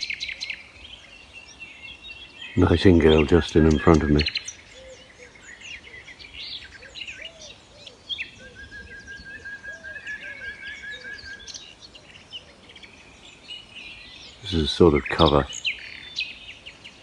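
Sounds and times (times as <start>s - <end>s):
low arched bird notes: 0.0s - 17.0s
nightingale singing: 0.0s - 17.0s.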